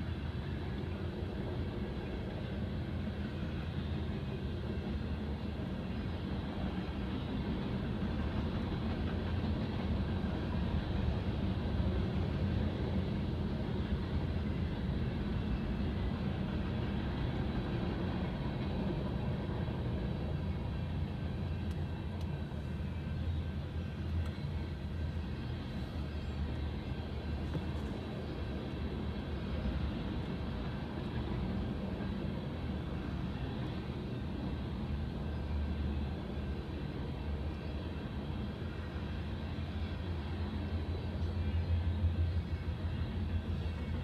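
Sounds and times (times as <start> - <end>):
muffled freight train rumble: 0.0 - 44.0.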